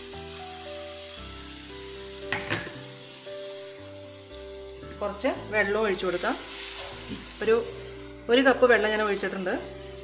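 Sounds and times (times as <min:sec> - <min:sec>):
paste sizzling in hot oil: 0:00.0 - 0:10.0
soft background music: 0:00.0 - 0:10.0.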